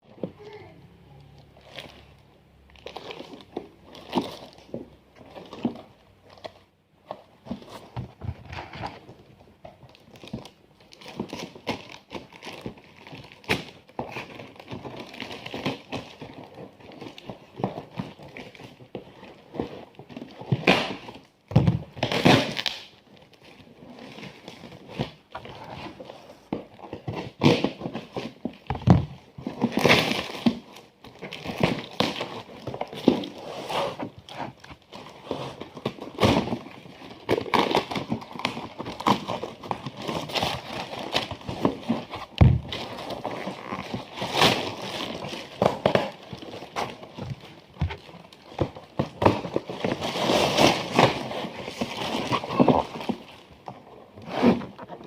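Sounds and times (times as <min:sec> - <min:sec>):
plastic packaging crinkling: 0:01.3 - 0:06.7, 0:09.8 - 0:55.0.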